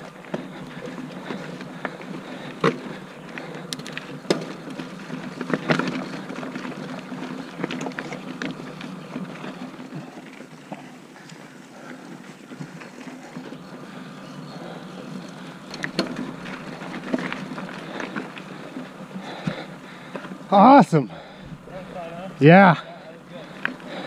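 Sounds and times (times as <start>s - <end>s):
bicycle tyres on dirt trail: 0.0s - 24.0s
bike rattling over bumps: 0.0s - 24.0s.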